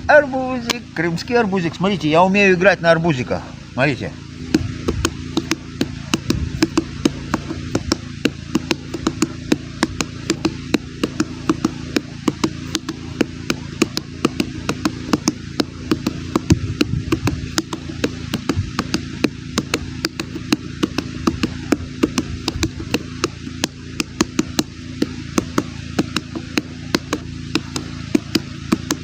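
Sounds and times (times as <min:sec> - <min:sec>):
steady low hum: 0:00.0 - 0:29.0
hands drumming on a watermelon: 0:04.3 - 0:29.0.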